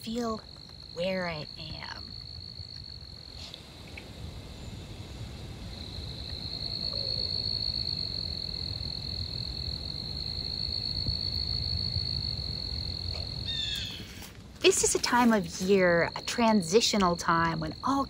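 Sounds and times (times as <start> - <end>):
cricket trilling: 0.0 - 18.0.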